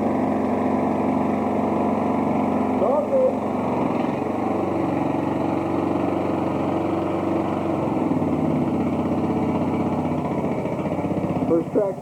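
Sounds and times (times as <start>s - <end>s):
lawn tractor engine puttering: 0.0s - 12.0s.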